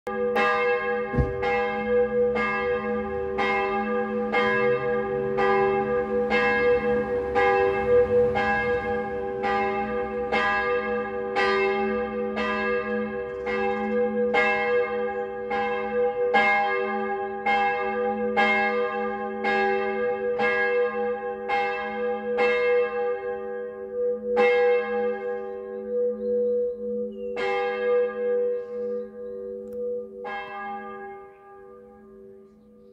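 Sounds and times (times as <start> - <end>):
church bell ringing: 0.1 - 32.9.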